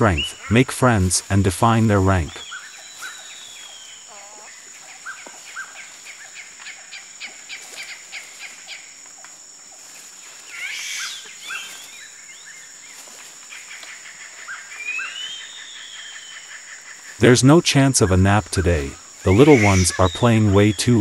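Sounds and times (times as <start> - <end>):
high chirping calls: 0.0 - 8.9, 10.4 - 21.0
high insect drone: 0.0 - 21.0.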